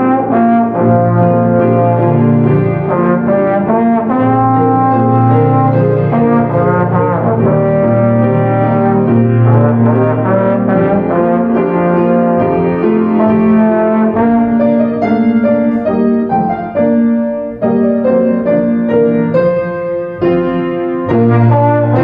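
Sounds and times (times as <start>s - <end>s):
piano accompaniment: 0.0s - 22.0s
trombone melody: 0.0s - 22.0s.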